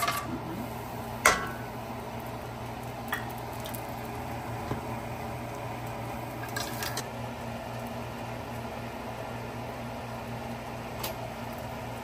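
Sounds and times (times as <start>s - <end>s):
steady low hum: 0.0s - 12.0s
spices sizzling in oil: 0.6s - 12.0s.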